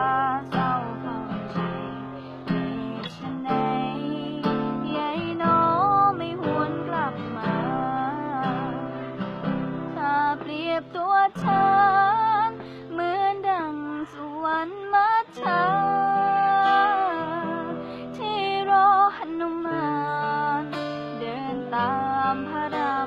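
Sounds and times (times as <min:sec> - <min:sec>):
acoustic guitar: 0:00.0 - 0:23.0
woman singing: 0:00.0 - 0:23.0.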